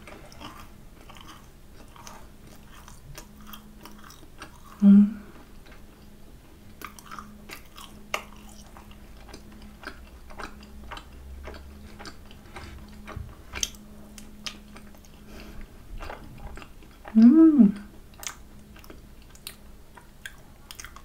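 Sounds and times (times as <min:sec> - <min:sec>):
chewing with wet mouth clicks: 0:00.0 - 0:04.8, 0:06.7 - 0:21.0.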